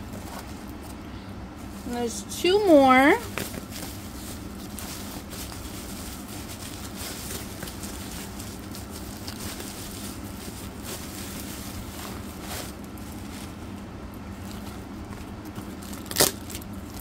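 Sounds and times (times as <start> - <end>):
bubble wrap crinkling and crackling: 0.0 - 1.0, 1.6 - 17.0.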